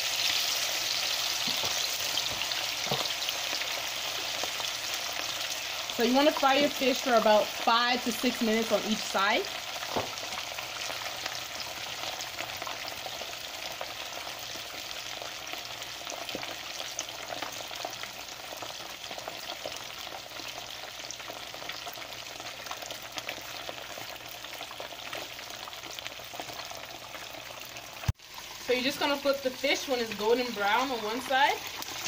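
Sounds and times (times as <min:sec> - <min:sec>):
fish frying in hot oil: 0:00.0 - 0:32.0.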